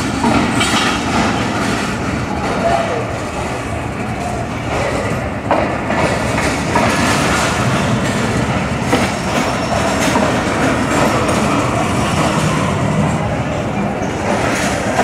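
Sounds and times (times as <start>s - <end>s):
clickety-clack over rail joints: 0.0s - 15.0s
wheels rumbling on rails: 0.0s - 15.0s.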